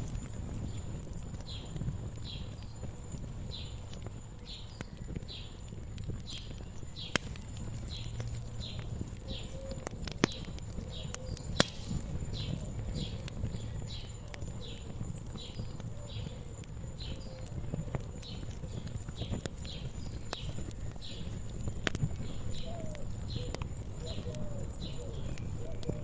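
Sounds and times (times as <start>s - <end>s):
bird chirping: 0.0s - 26.0s
wood fire crackling and popping: 0.0s - 26.0s.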